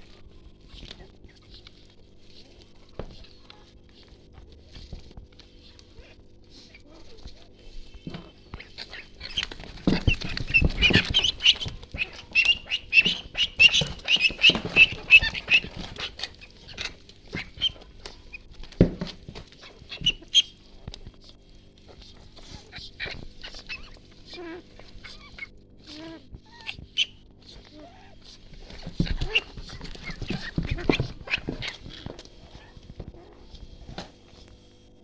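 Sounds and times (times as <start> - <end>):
ducklings peeping: 0.0 - 35.0.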